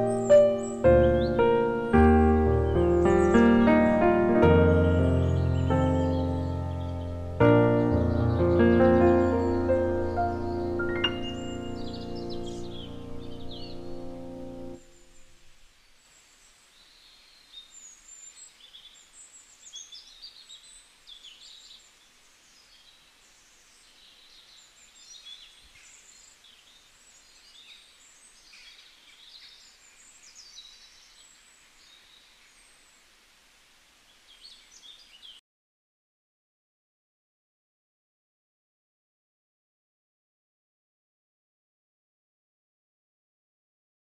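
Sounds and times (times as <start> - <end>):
background hiss: 0.0 - 35.4
small birds chirping: 0.0 - 35.4.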